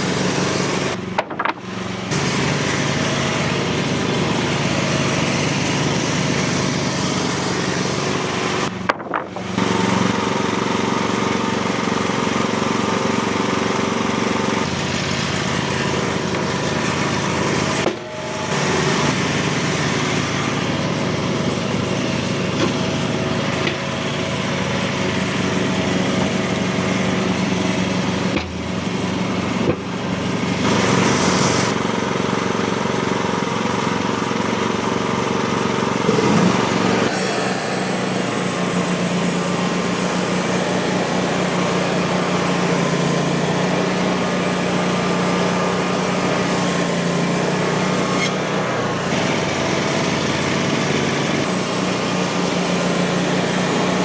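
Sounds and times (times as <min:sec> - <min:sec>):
bandsaw blade sawing wood: 0:00.0 - 0:54.0
gasoline engine running: 0:00.0 - 0:54.0.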